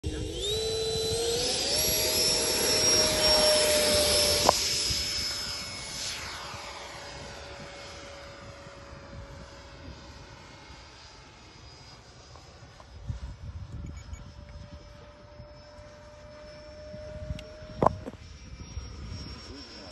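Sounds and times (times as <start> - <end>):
electric ducted fan whine: 0.0 - 12.0, 12.6 - 19.9.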